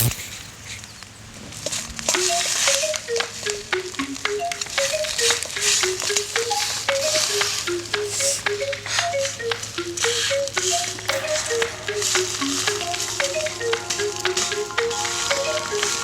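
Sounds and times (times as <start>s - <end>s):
plucked melody over ticking beat: 2.1s - 16.0s.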